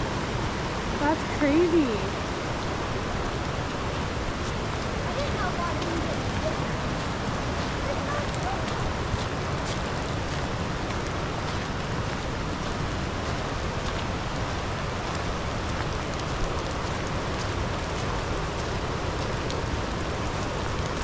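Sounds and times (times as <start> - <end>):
river rushing over rapids: 0.0 - 21.0.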